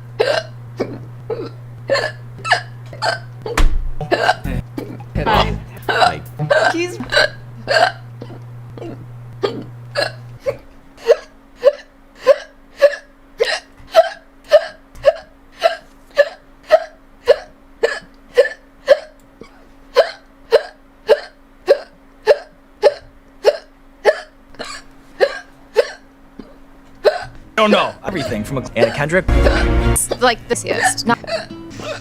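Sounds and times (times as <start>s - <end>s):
faint steady hum: 0.0s - 32.0s
person hiccuping: 0.2s - 27.4s, 28.2s - 32.0s.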